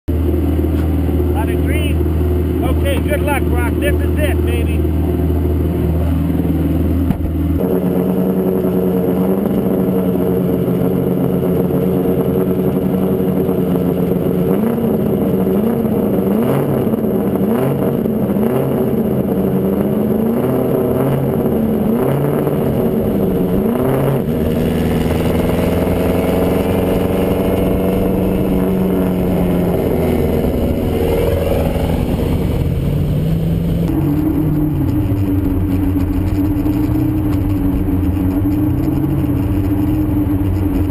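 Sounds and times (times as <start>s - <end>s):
turbocharged engines running hard: 0.1s - 40.9s.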